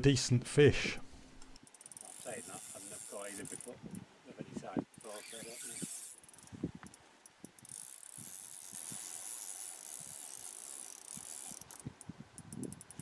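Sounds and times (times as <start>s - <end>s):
fishing reel whirring and clicking: 1.6s - 4.0s, 4.9s - 13.0s.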